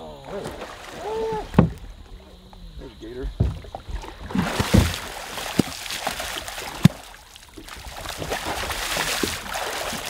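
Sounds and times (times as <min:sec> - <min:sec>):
water splashing: 0:00.0 - 0:10.0
alligator thrashing in water: 0:00.2 - 0:10.0.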